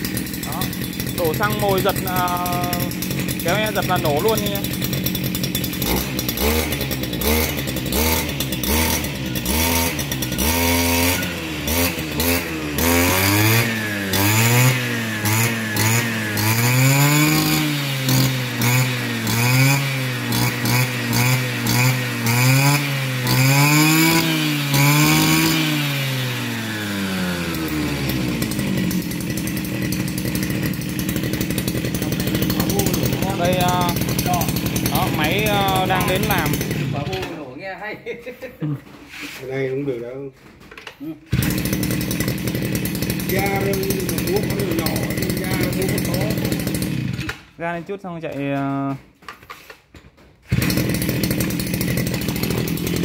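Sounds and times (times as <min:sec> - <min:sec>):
brush cutter engine revving: 0:00.0 - 0:37.7, 0:41.0 - 0:49.0, 0:50.5 - 0:53.0.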